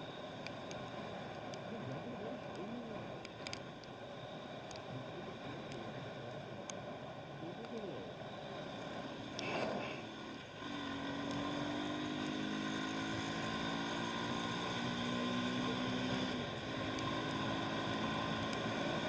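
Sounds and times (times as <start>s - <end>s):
motorcycle engine humming: 0.0s - 19.0s
traffic and road noise: 0.0s - 19.0s.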